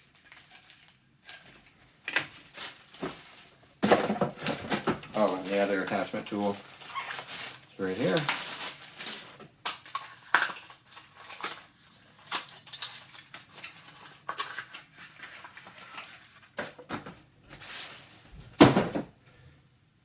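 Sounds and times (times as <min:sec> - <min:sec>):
plastic rustling: 0:00.0 - 0:19.2.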